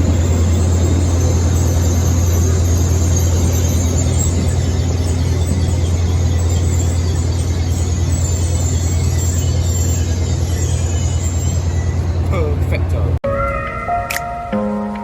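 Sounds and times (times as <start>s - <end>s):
faint high squeals: 0.0s - 12.3s
train engine humming: 0.0s - 15.0s.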